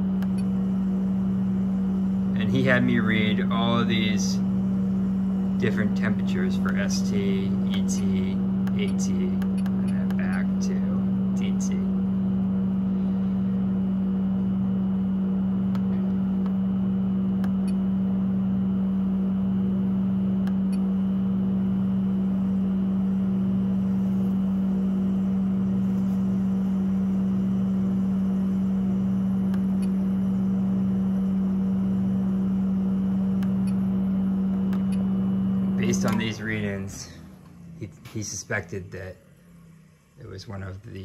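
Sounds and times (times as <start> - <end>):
heat pump machine hum: 0.0 - 41.0.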